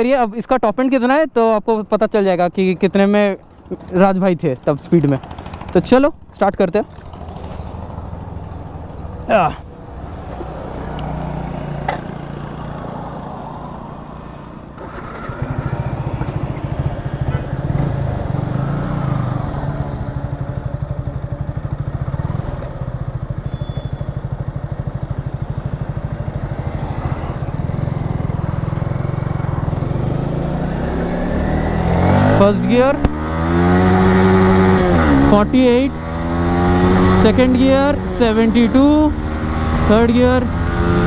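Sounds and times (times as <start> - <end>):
motorcycle engine running: 5.0 - 6.2, 6.8 - 41.0.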